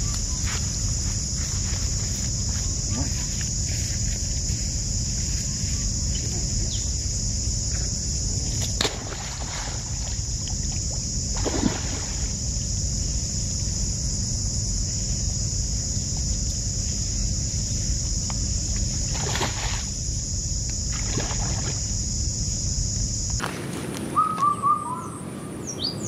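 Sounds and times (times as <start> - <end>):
high-pitched insect drone: 0.0 - 23.5.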